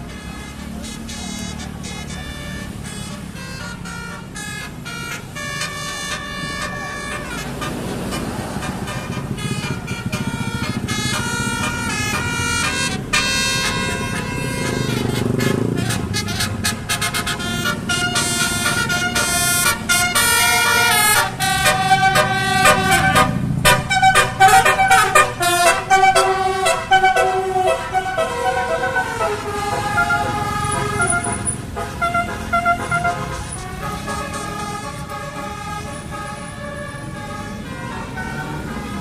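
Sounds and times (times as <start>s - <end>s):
multi-trumpet air horn tune: 0.0s - 39.0s.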